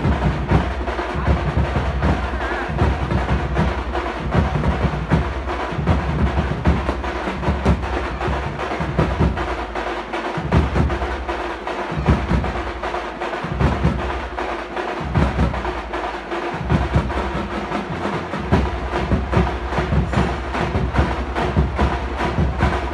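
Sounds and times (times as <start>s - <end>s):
fast stick strokes on drums: 0.0s - 22.9s
heavy bass drum beats: 0.0s - 22.9s.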